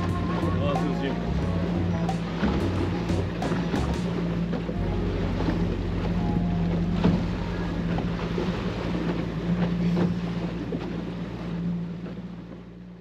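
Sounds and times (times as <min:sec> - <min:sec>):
boat engine running: 0:00.0 - 0:13.0
rushing water: 0:00.0 - 0:13.0
wind: 0:00.0 - 0:13.0.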